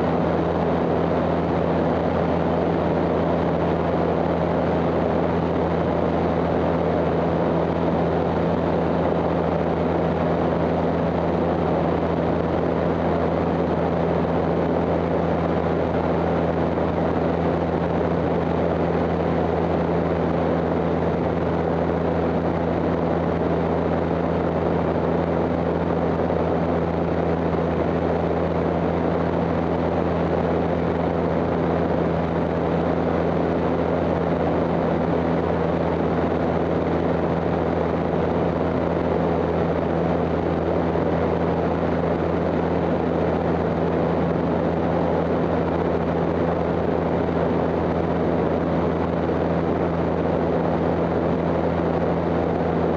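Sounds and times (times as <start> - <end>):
propeller plane engine drone: 0.0 - 52.9.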